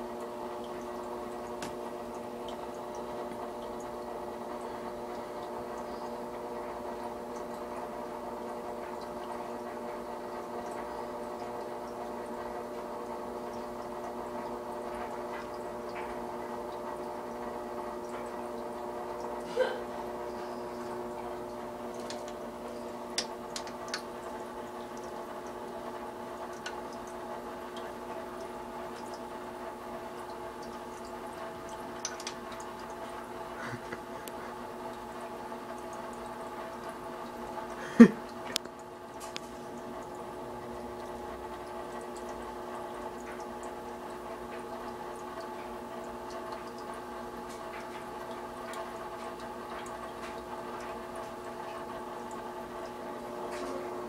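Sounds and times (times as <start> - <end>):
fish tank pump hum: 0.0 - 54.0
trickling water: 0.0 - 54.0.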